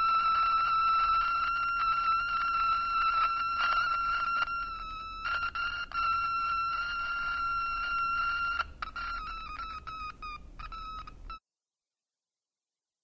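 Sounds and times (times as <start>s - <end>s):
high electronic tone: 0.0s - 11.4s.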